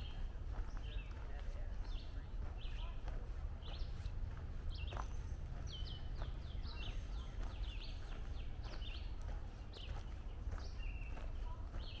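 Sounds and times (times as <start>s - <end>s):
footsteps on a trail: 0.0s - 12.0s
songbirds calling: 0.0s - 12.0s.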